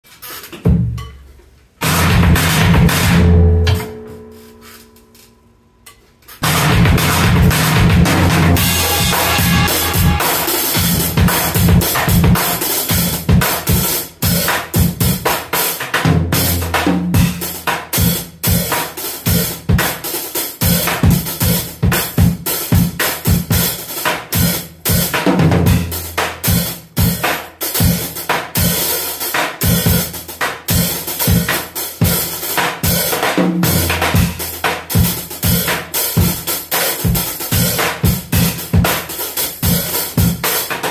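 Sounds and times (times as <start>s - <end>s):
drum kit playing fast groove: 1.8s - 4.0s, 6.4s - 40.9s.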